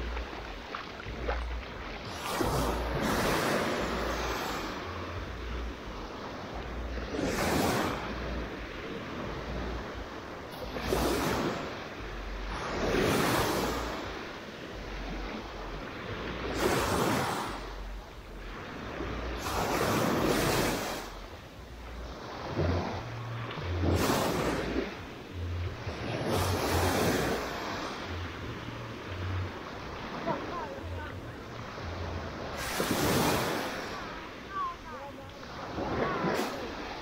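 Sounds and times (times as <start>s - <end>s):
small waves breaking on sand: 0.0s - 37.0s.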